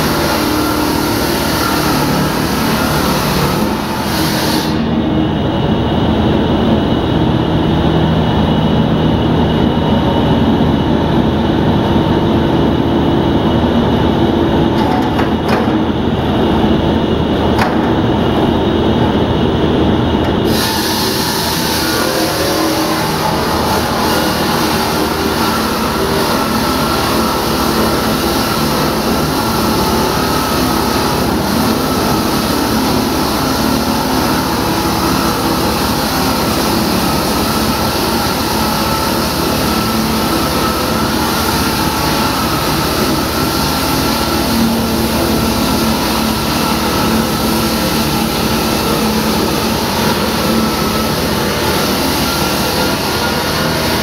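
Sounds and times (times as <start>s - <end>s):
concrete saw cutting: 0.0s - 5.2s, 14.5s - 54.0s.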